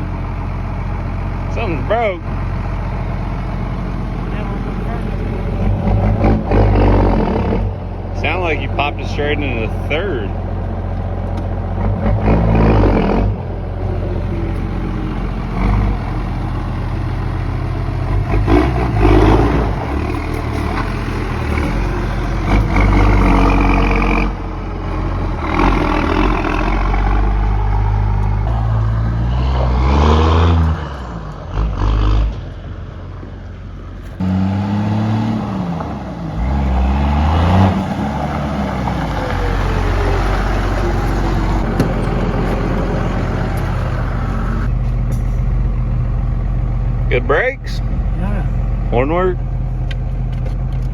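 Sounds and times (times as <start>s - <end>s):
diesel truck engine revving: 0.0s - 50.9s.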